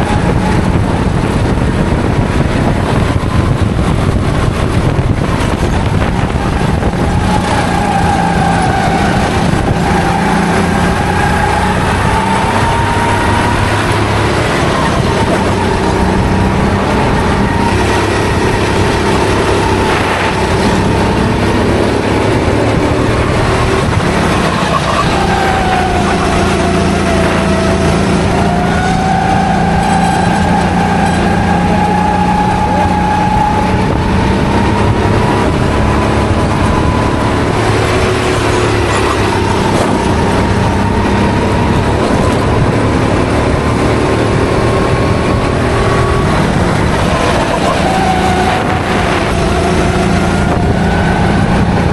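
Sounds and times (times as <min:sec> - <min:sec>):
kart engine revving: 0:00.0 - 0:51.9.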